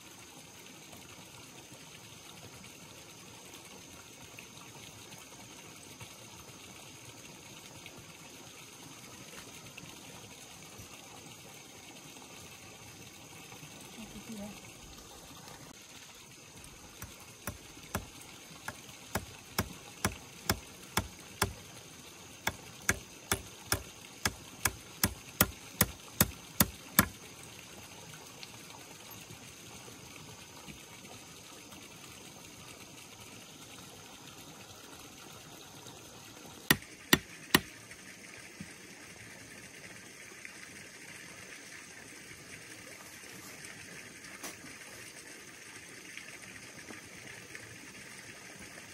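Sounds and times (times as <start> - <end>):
running water: 0.0 - 48.9.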